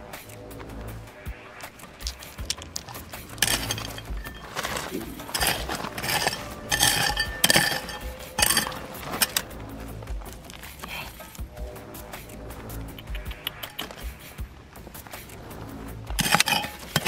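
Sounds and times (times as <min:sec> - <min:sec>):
stones clinking and scraping: 0:01.6 - 0:11.5, 0:13.0 - 0:17.0.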